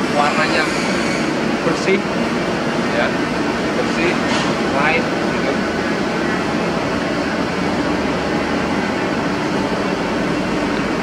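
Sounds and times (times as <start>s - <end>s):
factory machinery drone: 0.0s - 11.0s
ventilation noise: 0.0s - 11.0s.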